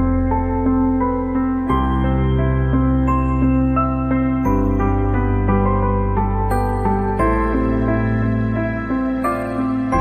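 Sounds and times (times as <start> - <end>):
background music with sustained chords: 0.0 - 10.0.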